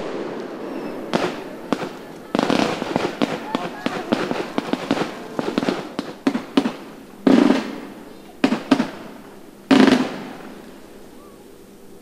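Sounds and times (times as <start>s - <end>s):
fireworks bangs echoing: 0.0s - 11.0s
fireworks cracking: 0.0s - 11.2s.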